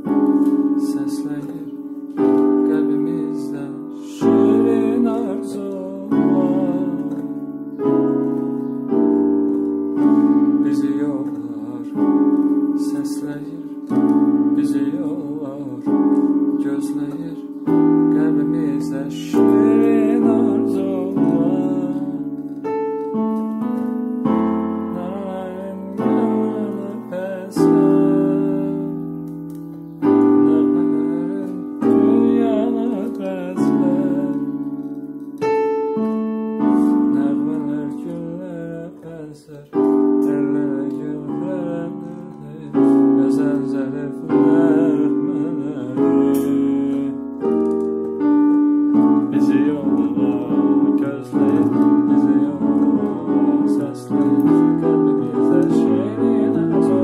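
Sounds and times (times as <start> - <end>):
slow piano chords: 0.0 - 57.0.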